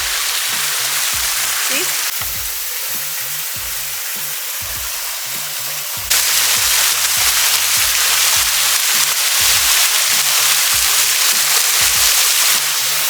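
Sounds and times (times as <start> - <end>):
music with bass line and beat: 0.0 - 13.0
waterfall rushing hiss: 0.0 - 13.0.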